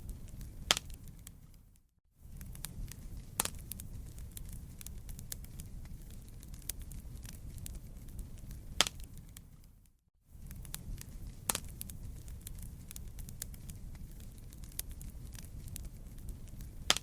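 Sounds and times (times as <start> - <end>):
loud fire pops: 0.0 - 1.5, 2.2 - 9.6, 10.4 - 17.0
campfire flames rumbling: 0.0 - 17.0
fire crackling snaps: 0.0 - 17.0.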